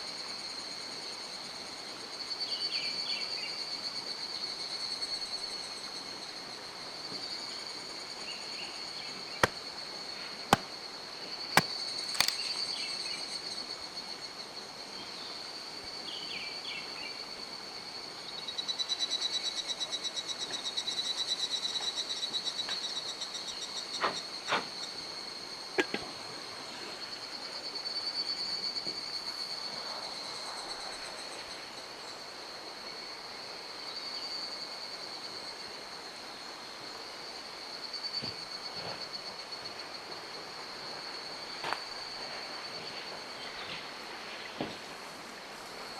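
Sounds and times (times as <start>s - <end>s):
insects trilling: 0.1s - 45.9s.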